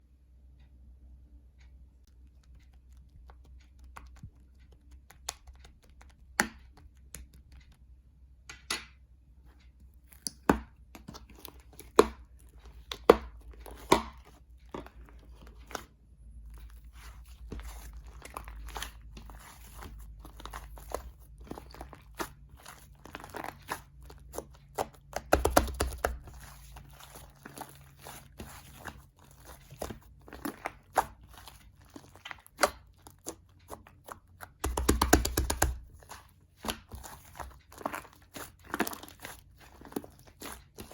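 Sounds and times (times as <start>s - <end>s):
slime squishing with pops: 2.0s - 8.0s, 9.9s - 40.9s.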